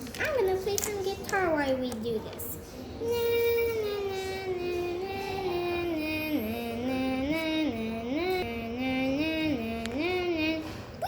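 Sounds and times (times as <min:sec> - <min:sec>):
girl singing wordless tune: 0:00.1 - 0:11.0.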